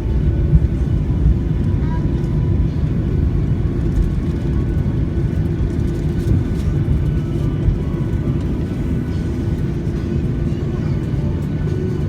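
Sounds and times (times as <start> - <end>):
airplane rumble and hum: 0.0 - 12.0.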